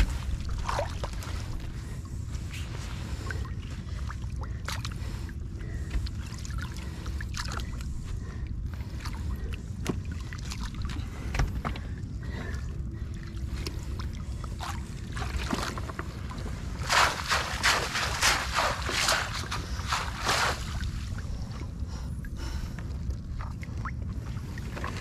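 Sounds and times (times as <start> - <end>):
boat low rumble: 0.0 - 25.0
faint steady hum: 0.0 - 25.0.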